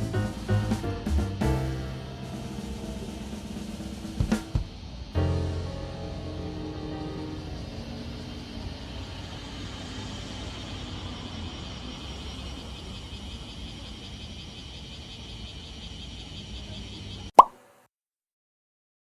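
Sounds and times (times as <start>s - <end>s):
vehicle running noise: 0.0s - 16.9s.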